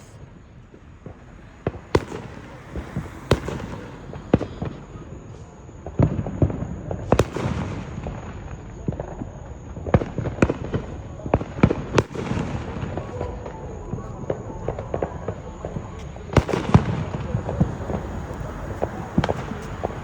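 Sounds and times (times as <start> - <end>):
distant explosions rumble: 0.0 - 20.0
fireworks bangs and pops: 0.0 - 20.0.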